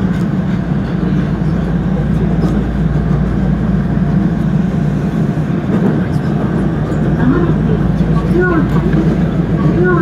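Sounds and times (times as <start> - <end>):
train rumbling through tunnel: 0.0 - 10.0.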